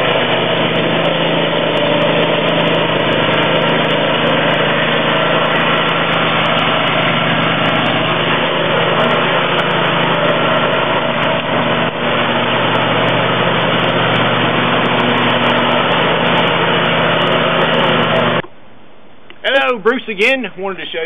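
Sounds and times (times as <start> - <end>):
lawn mower running: 0.0 - 21.0.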